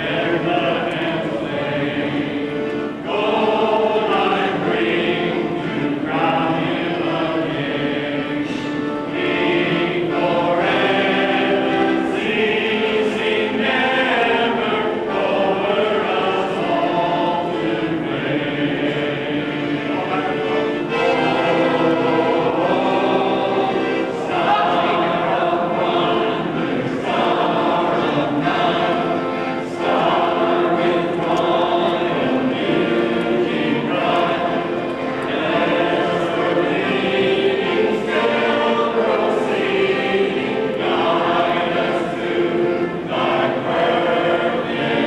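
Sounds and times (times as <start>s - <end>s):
choir singing held chords: 0.0s - 45.0s.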